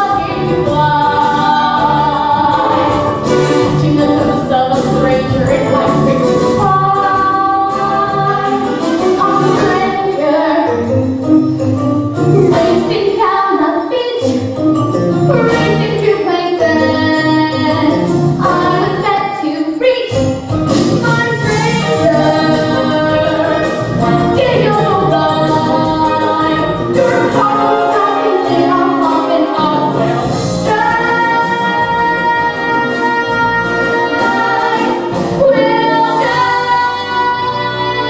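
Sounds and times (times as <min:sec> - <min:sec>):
girl singing: 0:00.0 - 0:03.0, 0:03.8 - 0:10.8, 0:12.5 - 0:14.4, 0:15.3 - 0:20.2, 0:21.0 - 0:38.0
instrumental accompaniment: 0:00.0 - 0:38.0.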